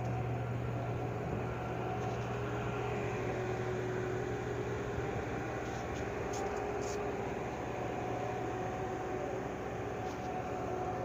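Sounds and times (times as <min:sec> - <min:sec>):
crane machinery droning: 0:00.0 - 0:11.0.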